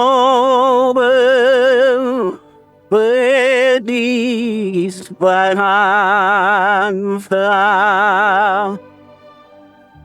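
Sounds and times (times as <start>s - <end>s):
man singing with vibrato: 0.0s - 8.8s.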